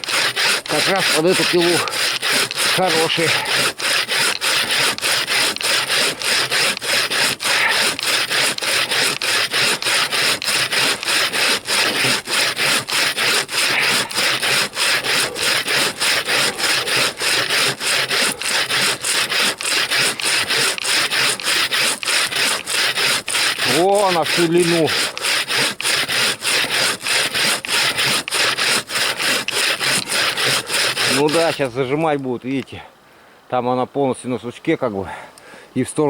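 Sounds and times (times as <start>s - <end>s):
bow saw rasping through wood: 0.0s - 31.8s.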